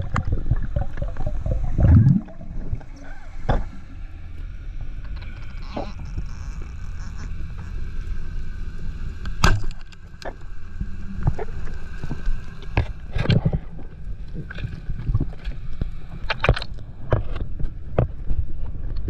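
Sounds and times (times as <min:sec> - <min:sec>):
underwater low rumble: 0:00.0 - 0:19.0.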